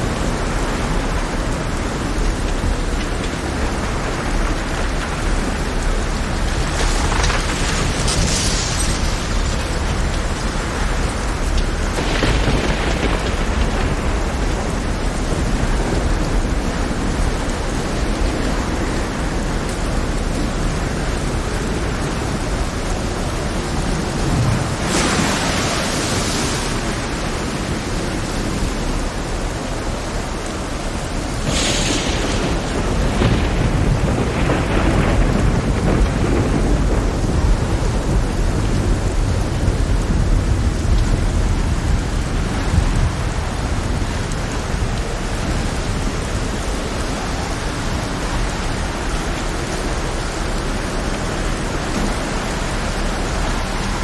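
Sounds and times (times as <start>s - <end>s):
deep continuous rumble: 0.0s - 54.0s
heavy rain: 0.0s - 54.0s.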